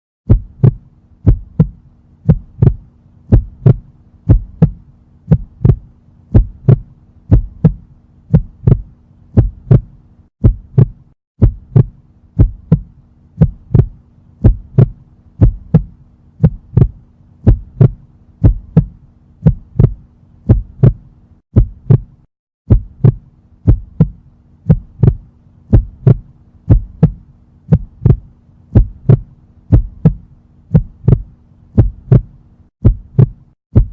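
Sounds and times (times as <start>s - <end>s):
heartbeat thumps: 0.2s - 33.9s
faint steady hum: 0.3s - 33.9s.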